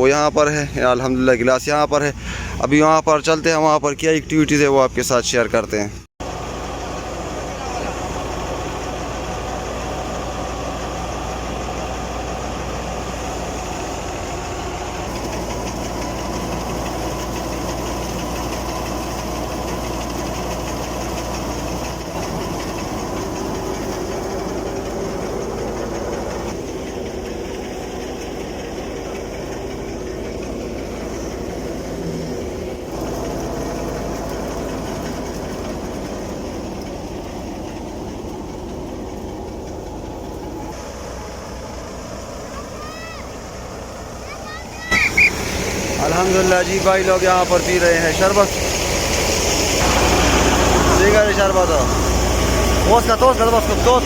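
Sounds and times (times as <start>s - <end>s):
tractor diesel engine humming: 0.0s - 54.0s
thresher mechanical drone: 6.3s - 44.4s, 45.0s - 54.0s.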